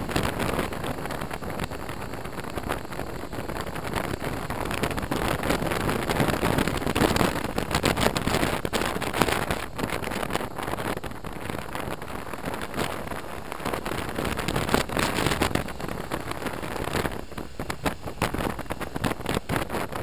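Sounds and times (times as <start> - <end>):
motorcycle running: 0.0 - 20.0
wind buffeting microphone: 0.0 - 20.0.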